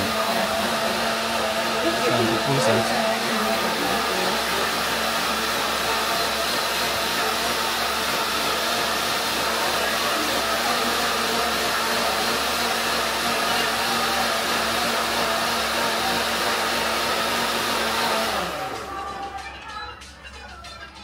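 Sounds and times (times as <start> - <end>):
blender motor whirring: 0.0 - 19.9.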